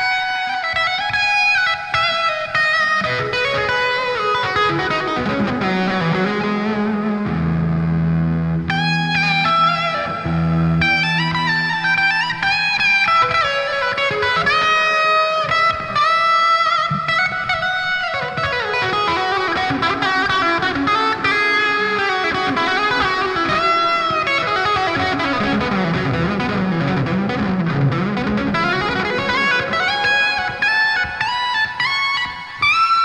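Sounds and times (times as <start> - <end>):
ambient electric guitar: 0.0 - 33.0.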